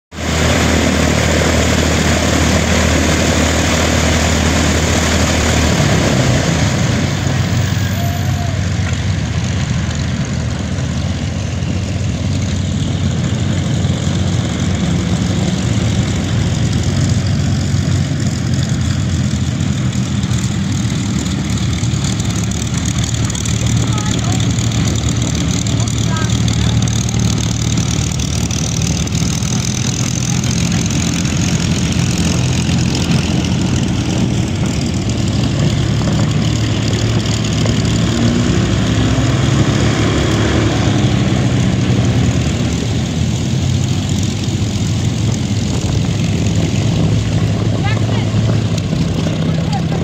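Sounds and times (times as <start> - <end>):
propeller engine idling: 0.1 - 50.0.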